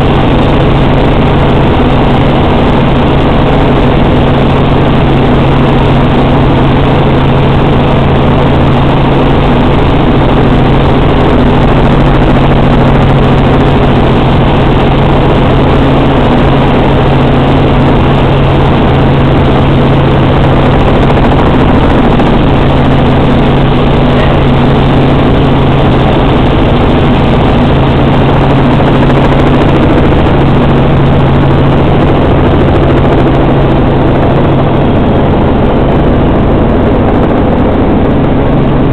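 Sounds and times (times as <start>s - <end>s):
helicopter engine and rotors droning: 0.0s - 38.9s.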